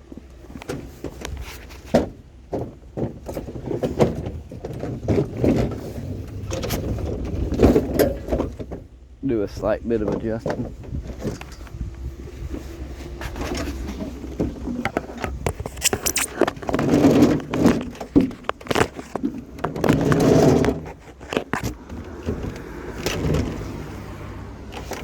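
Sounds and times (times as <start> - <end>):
junk clattering and scraping: 0.0 - 25.0.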